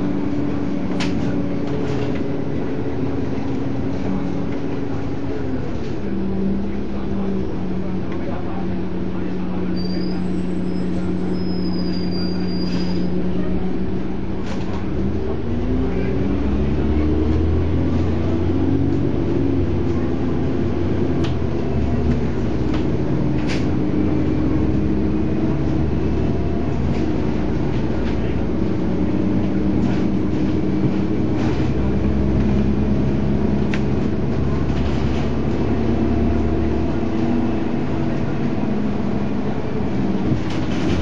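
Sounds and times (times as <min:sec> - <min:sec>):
bus diesel engine running: 0:00.0 - 0:41.0.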